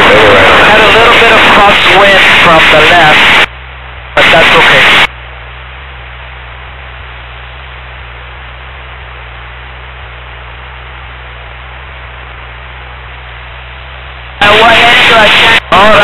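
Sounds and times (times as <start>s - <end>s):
airplane engine drone in flight: 0.0s - 16.0s.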